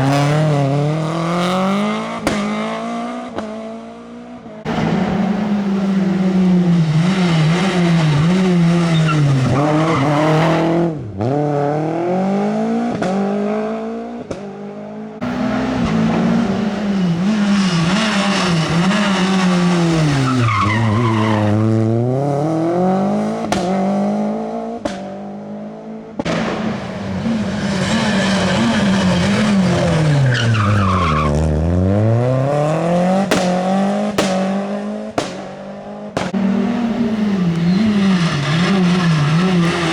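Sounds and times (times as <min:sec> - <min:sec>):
rally car engines accelerating: 0:00.0 - 0:39.9.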